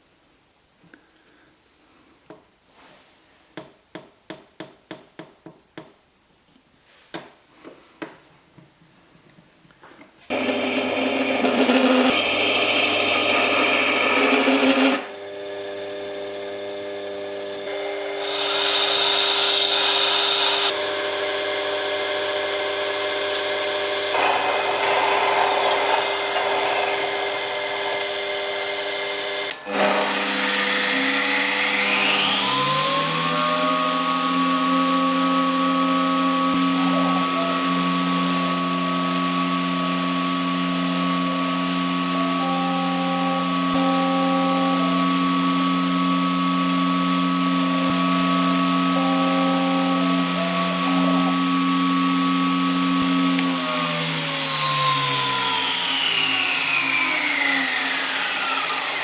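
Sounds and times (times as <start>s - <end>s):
electric power tool motor: 10.3s - 59.0s.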